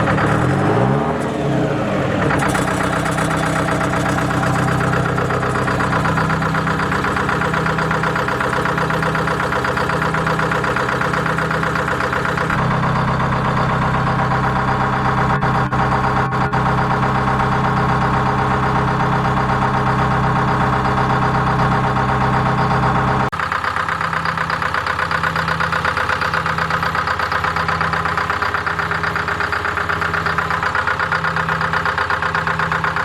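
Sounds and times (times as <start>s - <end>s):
diesel engine revving and idling: 0.0s - 33.0s.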